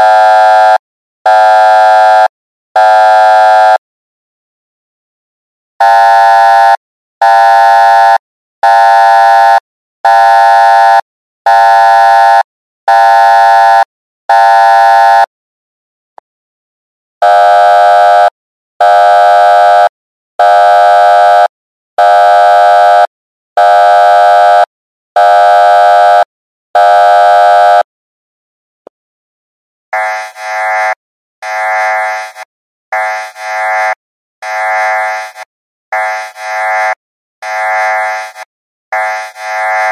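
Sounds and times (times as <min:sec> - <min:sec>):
electronic alarm blasts: 0:00.0 - 0:03.8, 0:05.8 - 0:15.3, 0:17.2 - 0:27.9, 0:29.9 - 0:39.9.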